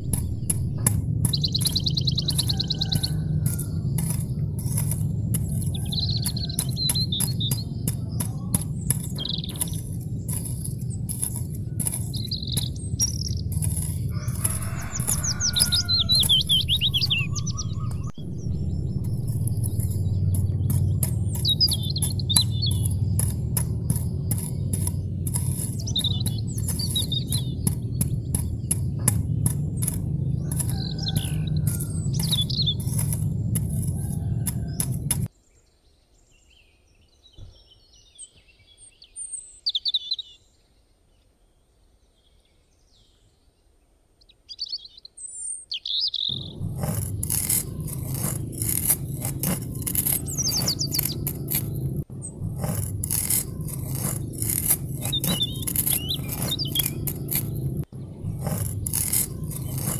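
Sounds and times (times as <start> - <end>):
birds chirping: 0.0 - 35.3, 44.6 - 59.9
fast even ticking: 0.0 - 35.3, 46.3 - 59.9
low rumble: 0.0 - 35.3, 46.3 - 59.9.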